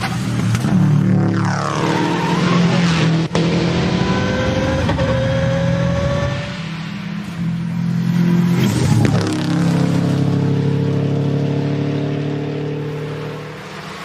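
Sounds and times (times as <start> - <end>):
race car engine revving: 0.0 - 14.0.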